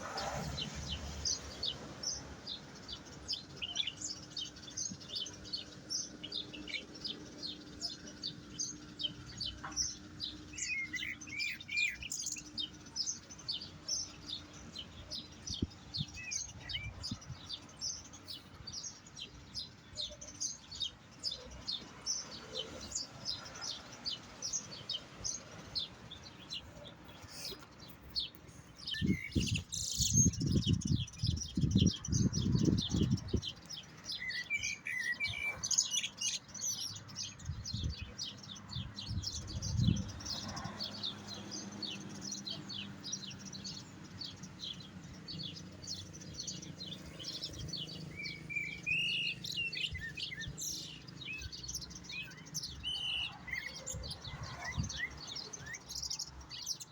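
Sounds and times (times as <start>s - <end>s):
bird twittering song: 0.0s - 56.9s.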